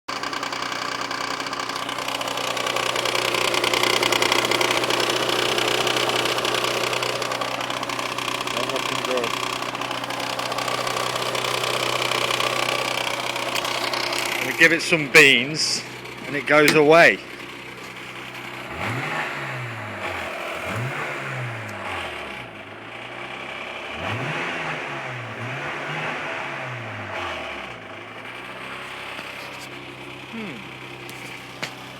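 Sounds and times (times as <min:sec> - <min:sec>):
car engine idling: 0:00.1 - 0:31.9
rapid engine ticking: 0:00.1 - 0:31.9.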